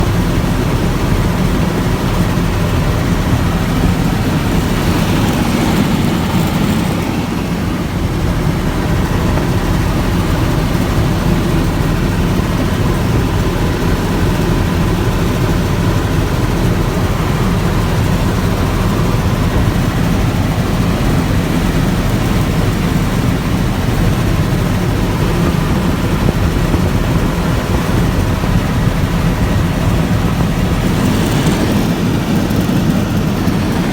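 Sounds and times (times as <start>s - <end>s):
helicopter turbine and rotor drone: 0.0s - 33.9s.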